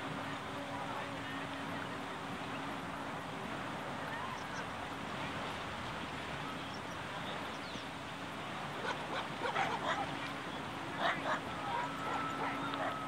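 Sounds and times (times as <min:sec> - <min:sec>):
small waves washing: 0:00.0 - 0:13.0.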